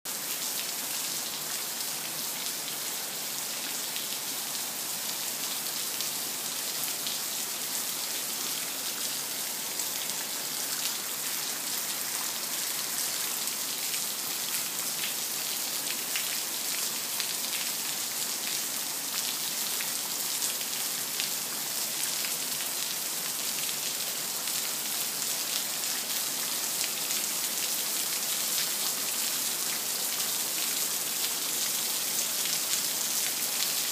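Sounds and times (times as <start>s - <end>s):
heavy rain on lawn and concrete: 0.1s - 33.9s.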